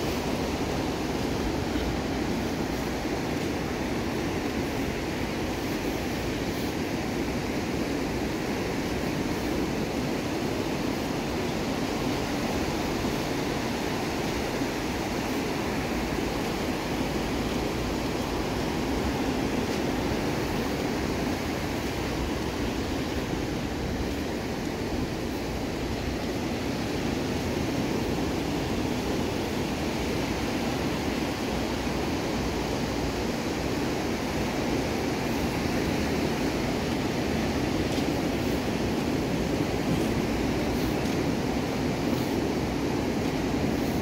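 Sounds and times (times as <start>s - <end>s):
ocean surf on a beach: 0.0s - 44.0s.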